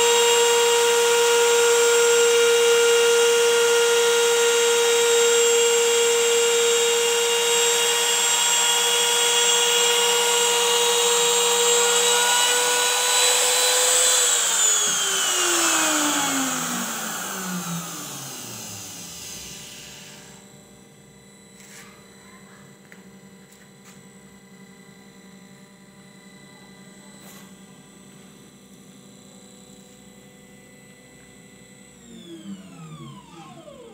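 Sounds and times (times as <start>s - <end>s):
router spindle high whine: 0.0s - 22.2s, 24.3s - 33.9s.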